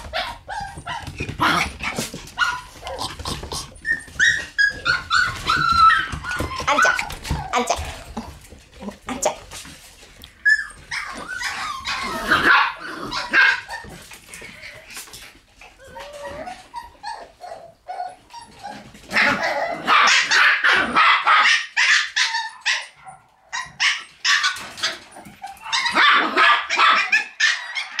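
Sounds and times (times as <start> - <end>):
puppies barking and yipping: 0.0 - 28.0.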